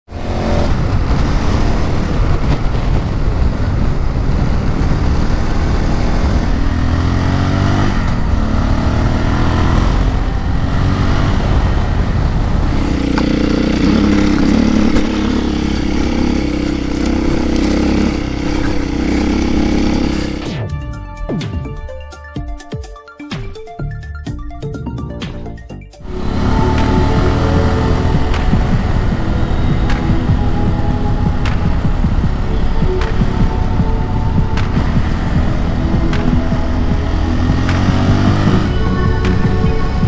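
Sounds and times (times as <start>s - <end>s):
motorcycle engine running: 0.0s - 20.7s, 26.0s - 40.0s
wind rush: 0.1s - 20.4s, 26.0s - 40.0s.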